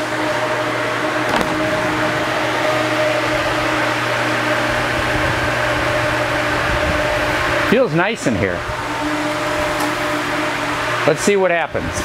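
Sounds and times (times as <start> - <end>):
large fan rushing air: 0.0 - 12.0.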